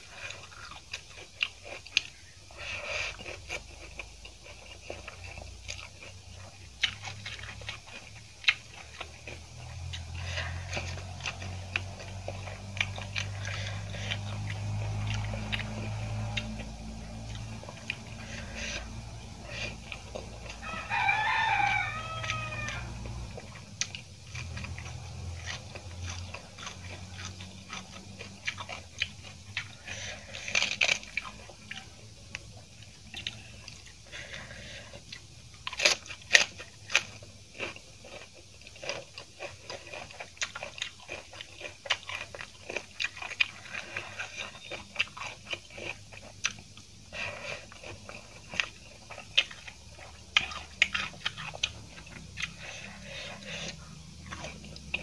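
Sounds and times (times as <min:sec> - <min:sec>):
person chewing wetly: 0:00.0 - 0:55.0
sharp crunchy clicks: 0:00.2 - 0:55.0.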